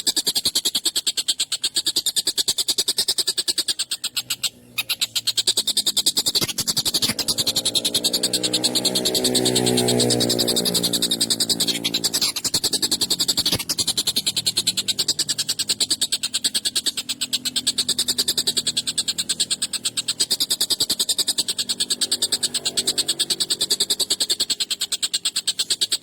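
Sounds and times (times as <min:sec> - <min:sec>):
kingfisher rapid rattling call: 0:00.0 - 0:26.0
fuller-pitched bird note: 0:03.7 - 0:26.0.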